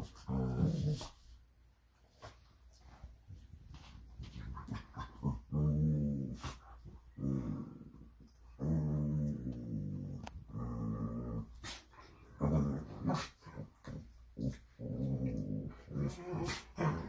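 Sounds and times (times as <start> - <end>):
dogs growling playfully: 0.0 - 1.3, 4.2 - 17.0.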